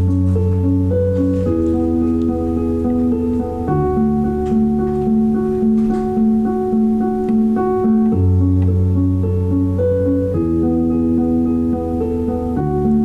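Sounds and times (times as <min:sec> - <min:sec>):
held bass notes: 0:00.0 - 0:13.0.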